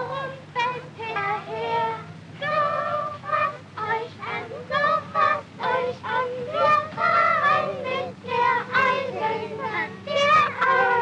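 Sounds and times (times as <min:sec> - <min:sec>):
children singing: 0:00.0 - 0:11.0
low steady hum: 0:00.0 - 0:11.0.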